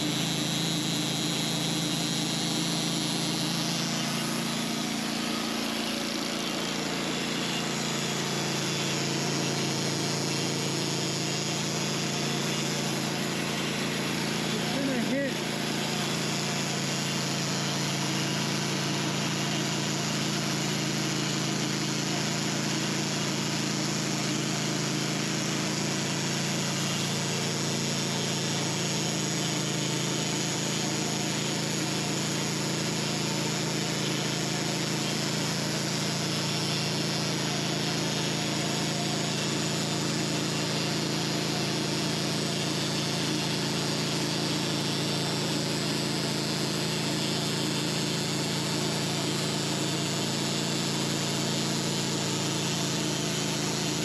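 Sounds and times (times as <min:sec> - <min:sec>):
engine drone: 0:00.0 - 0:54.0
saw blade cutting log: 0:00.0 - 0:54.0.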